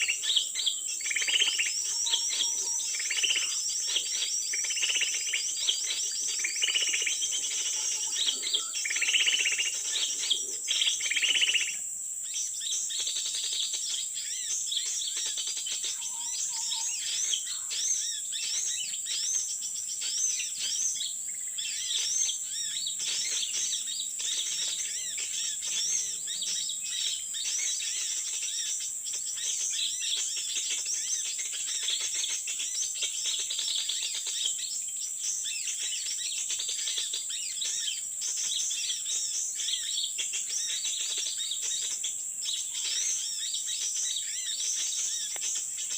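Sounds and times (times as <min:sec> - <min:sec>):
high-pitched insect drone: 0:00.0 - 0:45.9
small birds chirping: 0:00.0 - 0:45.9.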